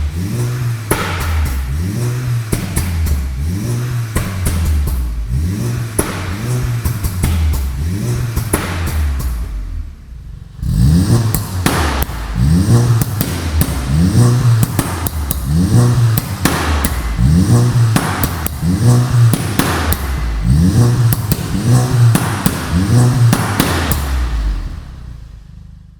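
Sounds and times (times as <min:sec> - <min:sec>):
exhaust pops and crackles: 0:00.0 - 0:25.1
car engine revving: 0:00.0 - 0:25.9.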